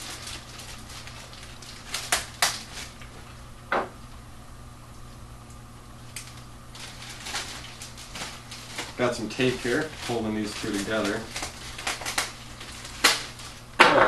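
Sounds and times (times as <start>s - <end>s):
plastic bags rustling and crinkling: 0.0s - 3.4s, 6.0s - 14.0s
steady low hum: 0.0s - 14.0s.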